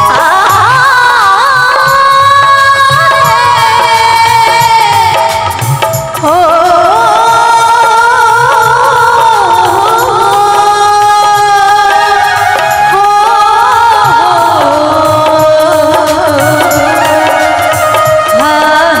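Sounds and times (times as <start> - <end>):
hand drums: 0.0 - 19.0
harmonium: 0.0 - 19.0
woman singing devotional song: 0.0 - 19.0.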